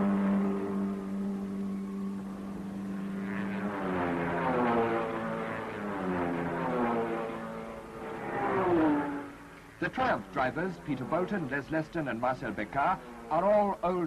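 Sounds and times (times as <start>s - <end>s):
racing cars passing: 0.0s - 13.8s.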